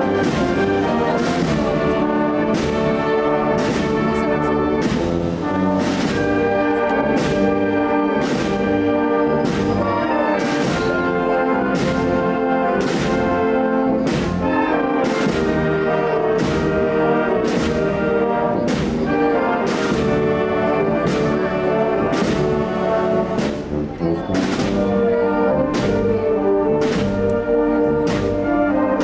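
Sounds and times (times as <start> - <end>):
brass band playing a march: 0.0 - 29.0.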